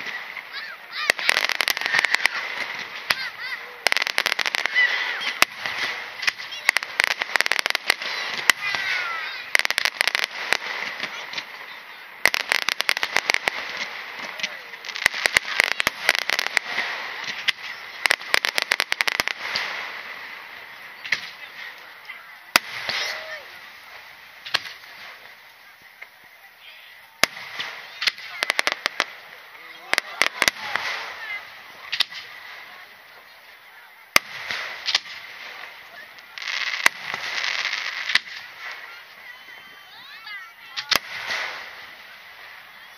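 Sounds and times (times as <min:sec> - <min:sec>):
fireworks crackling pops: 0:00.0 - 0:42.9
fireworks hiss: 0:00.0 - 0:42.9.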